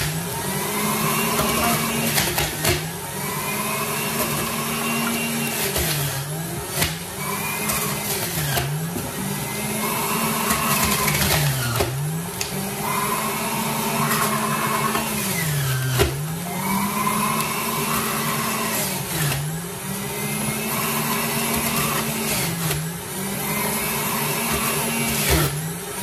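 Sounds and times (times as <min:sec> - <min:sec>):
electric juicer motor humming: 0:00.0 - 0:26.0.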